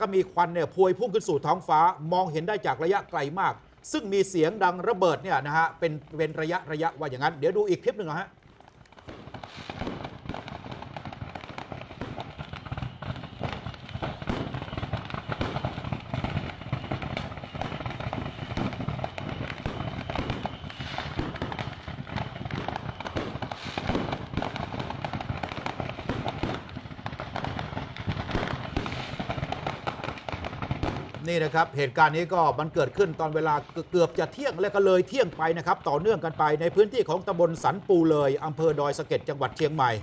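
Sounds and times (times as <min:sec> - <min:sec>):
fireworks crackling and banging: 0:00.0 - 0:40.0.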